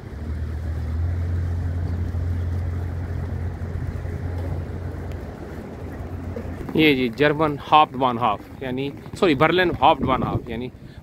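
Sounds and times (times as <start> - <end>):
boat engine drone: 0.0 - 11.0
wind: 0.0 - 11.0.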